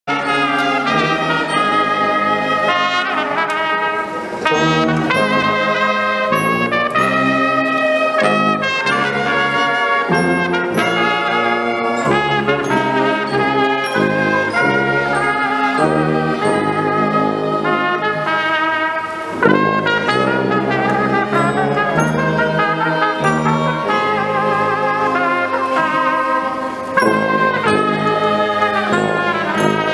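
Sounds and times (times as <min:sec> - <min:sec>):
brass band playing: 0:00.0 - 0:29.9
trumpets playing tune: 0:00.0 - 0:29.9.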